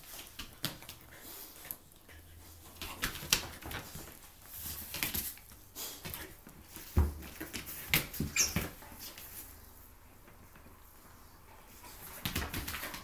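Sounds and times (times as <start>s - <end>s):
paws scrabbling on floor: 0.0s - 13.0s.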